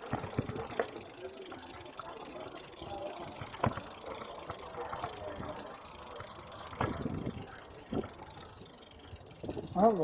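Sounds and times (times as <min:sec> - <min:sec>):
bicycle rattling over cobblestones: 0:00.0 - 0:10.0
faint voices of people: 0:00.0 - 0:10.0.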